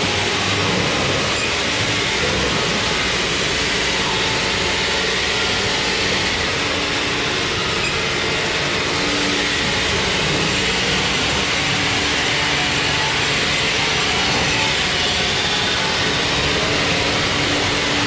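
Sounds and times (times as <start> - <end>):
sawmill machinery din: 0.0 - 18.0.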